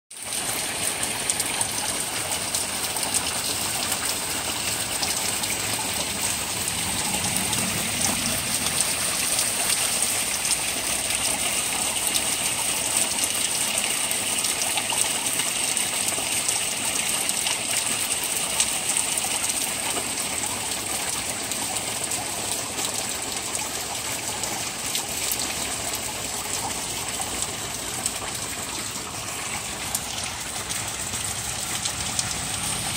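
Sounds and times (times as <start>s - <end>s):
steady rain falling: 0.1s - 32.9s.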